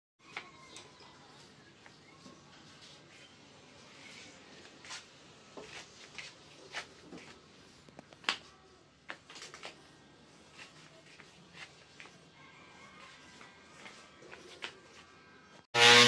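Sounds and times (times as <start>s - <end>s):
faint workshop background noise: 0.2s - 16.0s.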